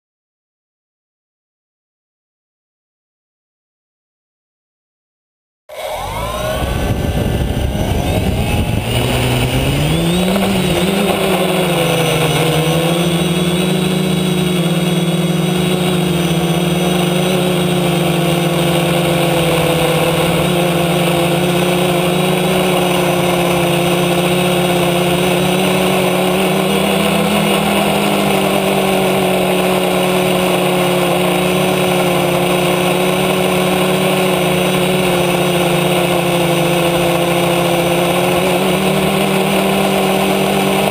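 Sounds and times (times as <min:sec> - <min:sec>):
drone propellers buzzing: 0:05.7 - 0:40.9.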